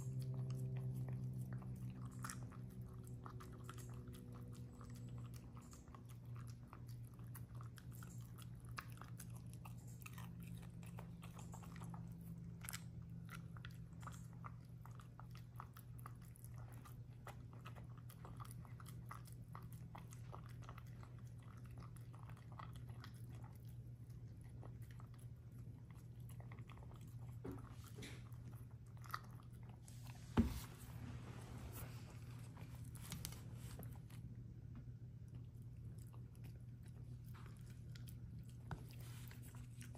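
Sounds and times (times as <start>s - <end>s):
dog chewing food: 0.0s - 39.9s
steady low hum: 0.0s - 39.9s.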